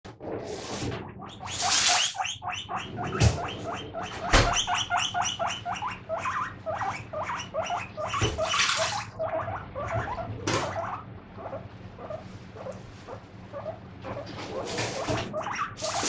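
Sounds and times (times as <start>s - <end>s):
guinea pig squeaking: 0.9s - 16.0s.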